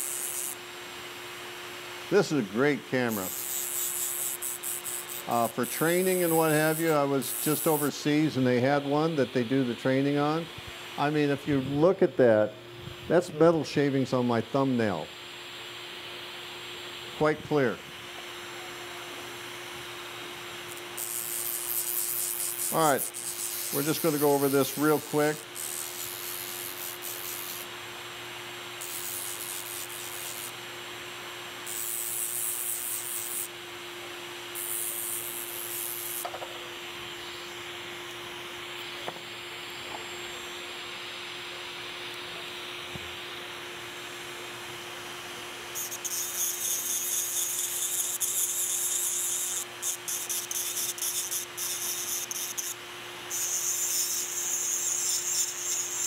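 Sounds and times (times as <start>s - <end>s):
handpiece motor whine: 0.0s - 11.8s, 15.9s - 56.0s.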